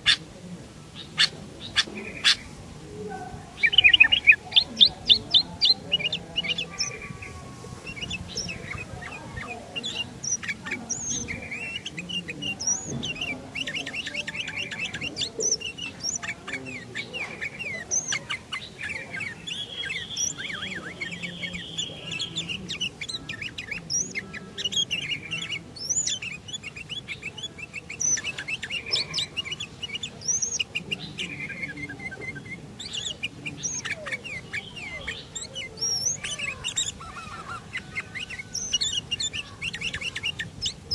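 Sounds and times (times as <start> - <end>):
bulbul singing chirps and whistles: 3.3 - 40.9.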